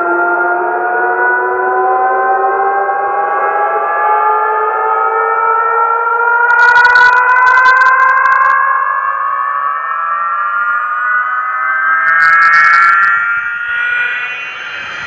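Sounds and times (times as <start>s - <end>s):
siren sound effect through speaker: 0.0s - 15.0s.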